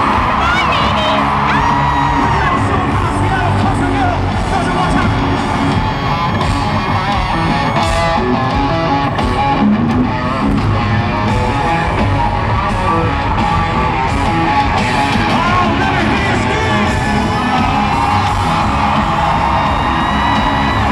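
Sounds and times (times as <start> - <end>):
live country-rock band: 0.0 - 20.9.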